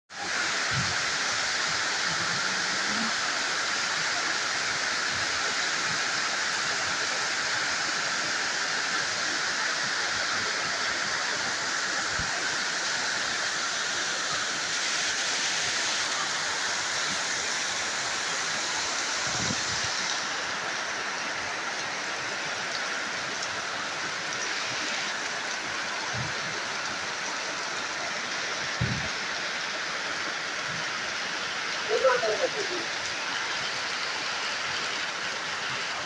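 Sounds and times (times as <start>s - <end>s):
rain hiss: 0.1s - 36.0s.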